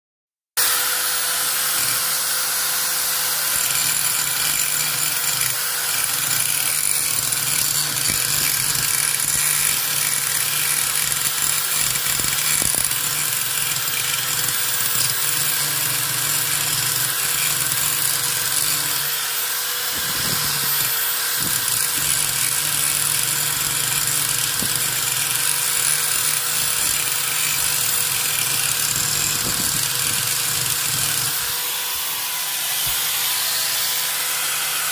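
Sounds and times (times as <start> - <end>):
angle grinder grinding metal: 0.6 - 34.9.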